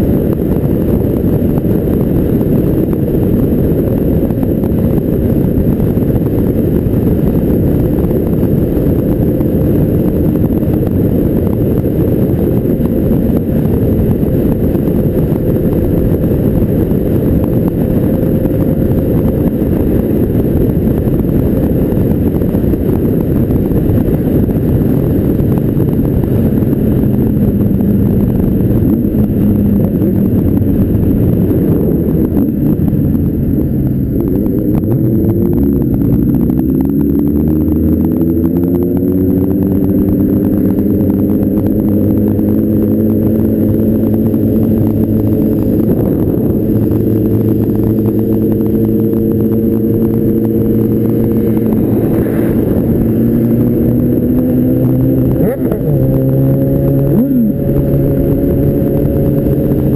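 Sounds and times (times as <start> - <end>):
motorcycle engine drone: 0.0 - 59.9
wind rumble on microphone: 0.0 - 59.9.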